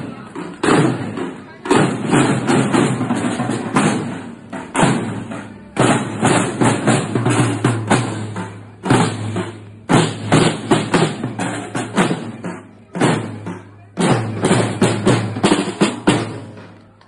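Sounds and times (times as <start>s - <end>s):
snare drums playing march beat: 0.0s - 16.7s.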